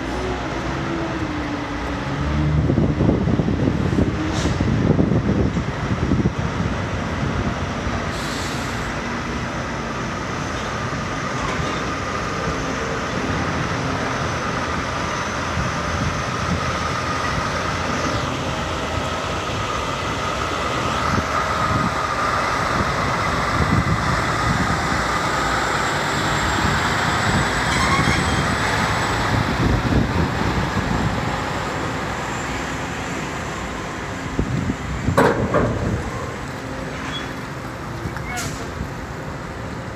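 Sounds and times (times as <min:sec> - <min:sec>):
truck diesel engine and tyre rumble: 0:00.0 - 0:39.9.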